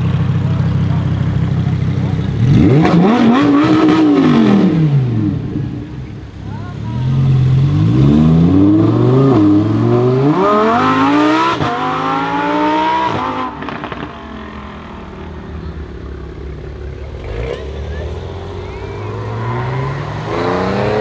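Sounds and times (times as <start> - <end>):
sports car engine accelerating: 0.0 - 6.3, 7.0 - 21.0.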